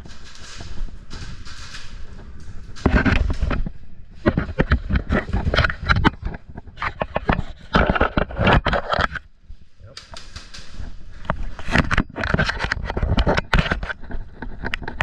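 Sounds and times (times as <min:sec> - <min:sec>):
rustling movement: 0:00.0 - 0:15.0.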